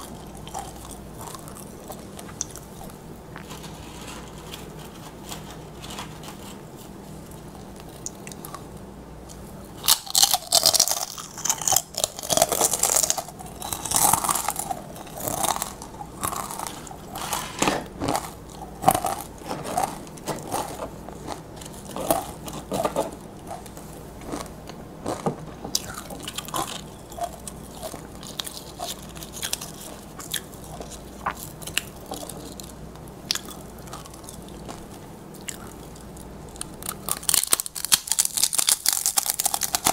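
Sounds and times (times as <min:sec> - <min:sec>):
tortilla chips crunching: 0:00.0 - 0:06.7, 0:09.3 - 0:39.9.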